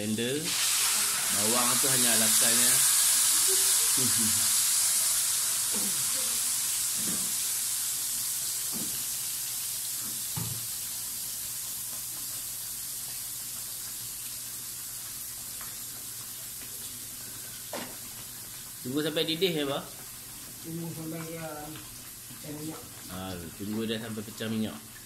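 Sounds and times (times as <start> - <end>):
chili paste sizzling in hot oil: 0.0 - 25.0.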